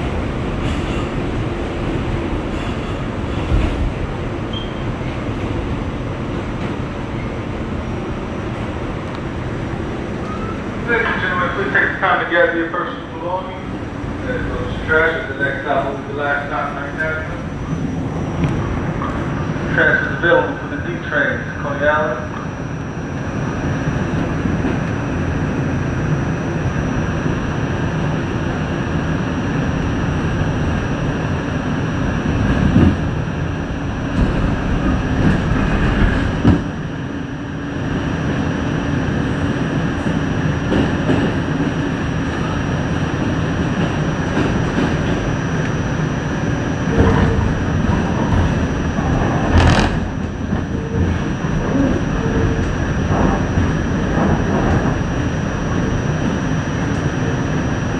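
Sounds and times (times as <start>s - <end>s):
subway train rumbling in tunnel: 0.0s - 57.9s.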